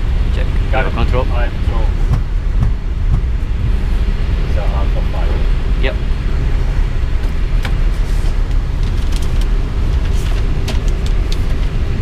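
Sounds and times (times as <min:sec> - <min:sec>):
low rumble of rolling airliner: 0:00.0 - 0:12.0.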